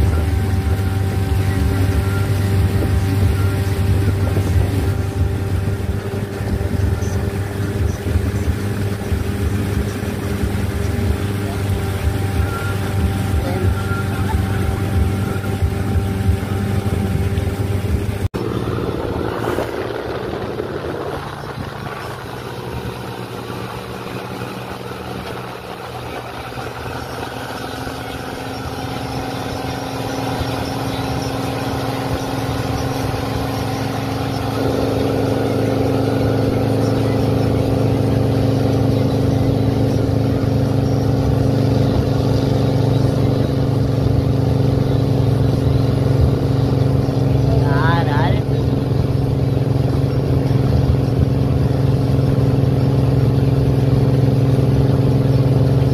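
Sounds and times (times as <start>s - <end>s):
boat engine droning hum: 0.0s - 55.9s.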